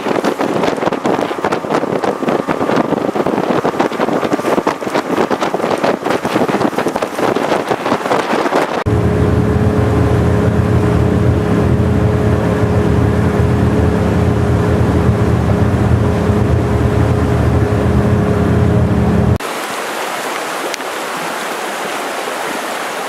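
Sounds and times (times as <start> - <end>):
boat engine droning: 0.0 - 7.8, 8.7 - 19.4
wind buffeting microphone: 0.0 - 19.4.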